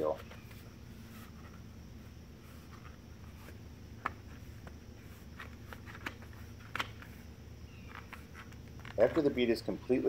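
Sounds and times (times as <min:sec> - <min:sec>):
quiet background hum: 0:00.0 - 0:10.0.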